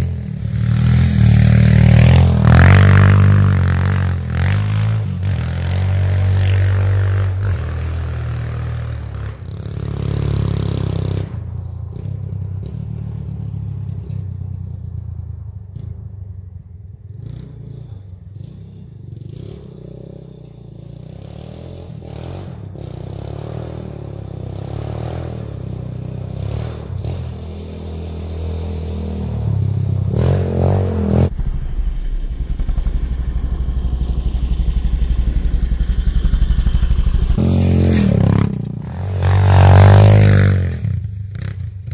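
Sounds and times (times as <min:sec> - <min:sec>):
three-wheeler engine revving: 0:00.0 - 0:16.0, 0:17.1 - 0:31.3, 0:32.4 - 0:41.9.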